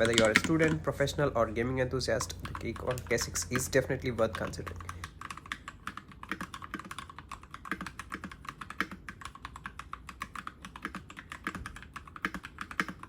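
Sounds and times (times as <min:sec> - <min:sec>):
mechanical keyboard typing: 0:00.0 - 0:13.0.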